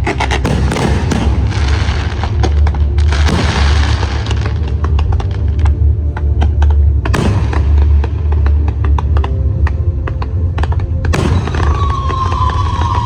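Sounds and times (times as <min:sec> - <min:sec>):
fireworks big bangs: 0:00.0 - 0:05.7, 0:07.0 - 0:09.7, 0:10.5 - 0:13.0
fireworks crackling pops: 0:00.0 - 0:13.0
low rumble: 0:00.0 - 0:13.0.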